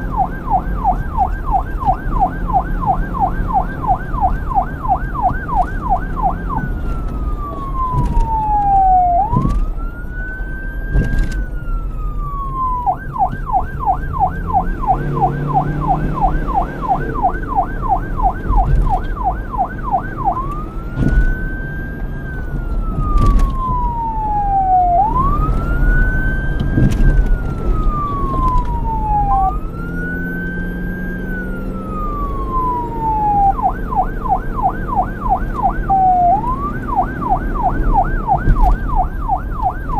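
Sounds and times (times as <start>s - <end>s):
police siren yelp and wail: 0.0s - 39.9s.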